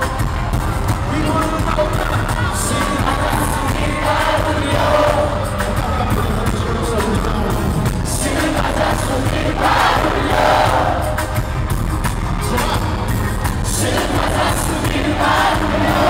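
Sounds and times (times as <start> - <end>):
crowd singing along: 0.0 - 11.5, 12.5 - 16.0
live band music: 0.0 - 16.0
people singing: 1.0 - 11.4, 13.5 - 16.0.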